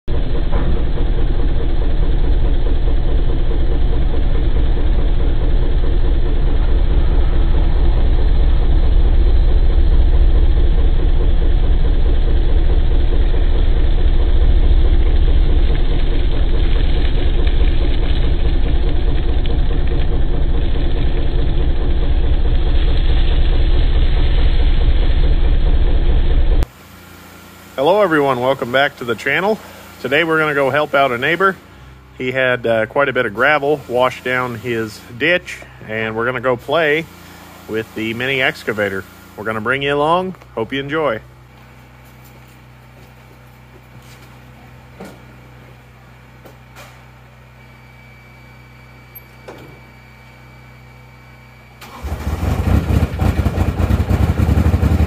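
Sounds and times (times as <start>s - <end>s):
diesel excavator engine running: 0.1s - 55.0s.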